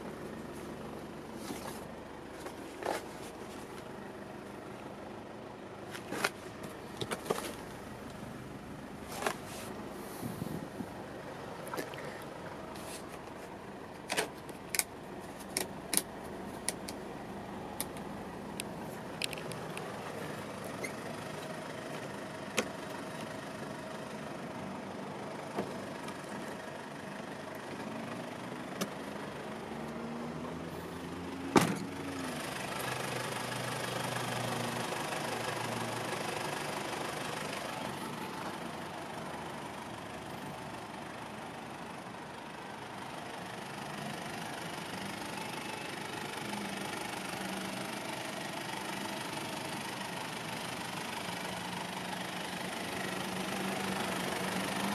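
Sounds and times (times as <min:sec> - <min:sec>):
vehicle engine hum: 0:00.0 - 0:54.9.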